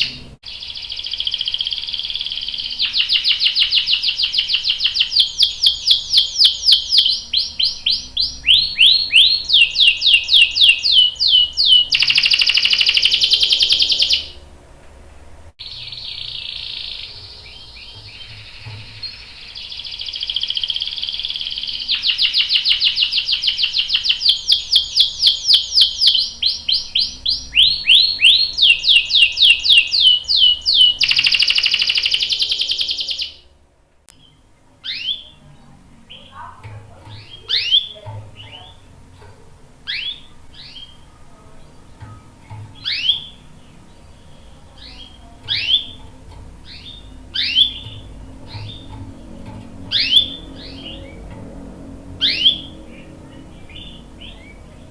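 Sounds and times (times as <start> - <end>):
canary singing: 0.0 - 14.9, 15.6 - 54.9.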